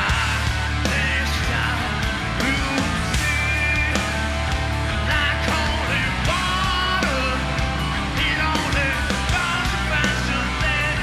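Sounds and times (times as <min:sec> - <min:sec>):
distorted guitars: 0:00.0 - 0:11.0
drums: 0:00.0 - 0:11.0
man singing lead vocals: 0:00.0 - 0:11.0.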